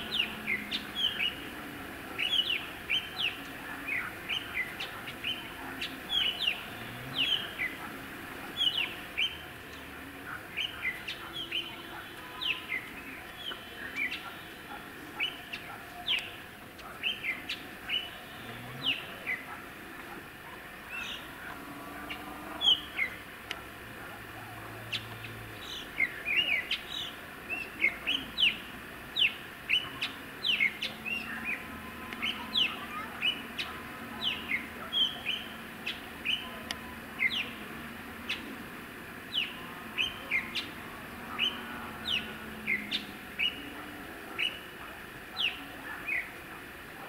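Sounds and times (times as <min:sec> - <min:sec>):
songbird chirping: 0:00.0 - 0:47.0.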